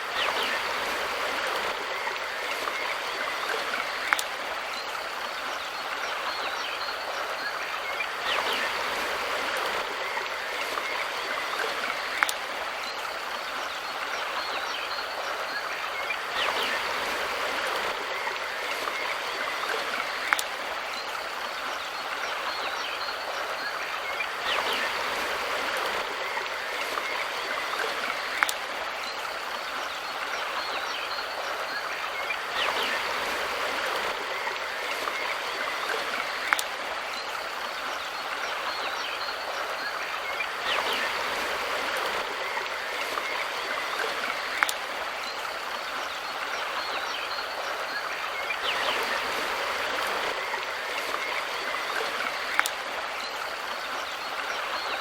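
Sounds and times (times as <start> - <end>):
stream rushing water: 0.0 - 55.0.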